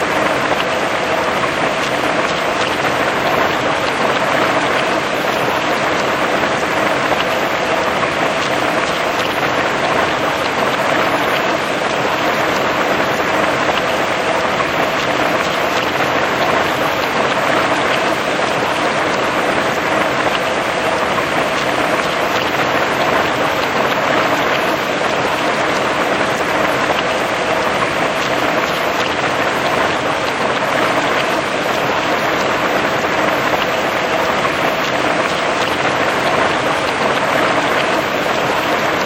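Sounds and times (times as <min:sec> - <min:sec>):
heavy rain on grass and trees: 0:00.0 - 0:39.0.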